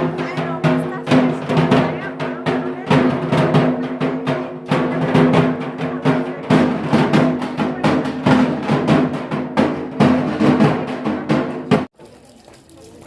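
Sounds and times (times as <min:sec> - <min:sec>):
drums beating fast: 0:00.0 - 0:11.9.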